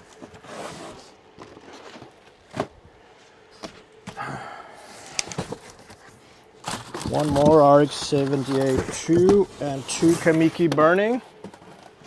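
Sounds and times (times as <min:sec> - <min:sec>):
cardboard boxes rustling: 0:00.0 - 0:04.2, 0:04.9 - 0:12.0.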